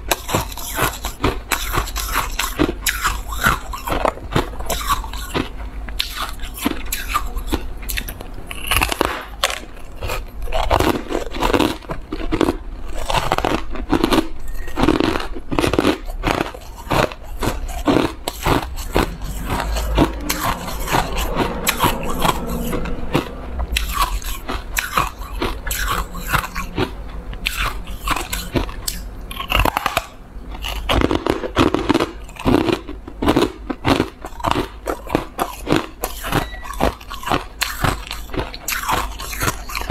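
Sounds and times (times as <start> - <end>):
person crunching shaved ice: 0.0 - 39.9.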